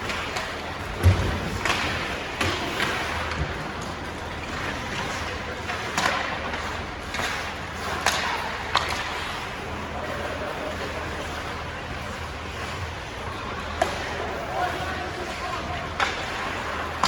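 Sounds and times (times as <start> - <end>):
arena noise: 0.0 - 17.0
skates scraping ice: 0.0 - 17.0.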